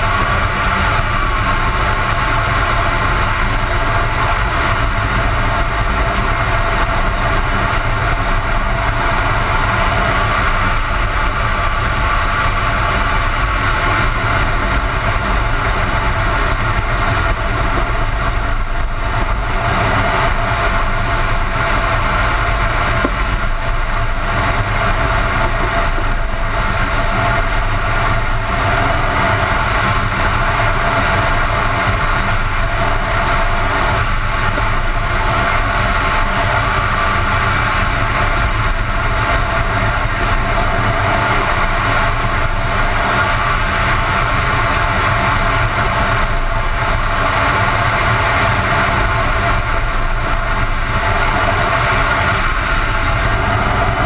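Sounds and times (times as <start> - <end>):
gas turbine engine whine: 0.0 - 54.0.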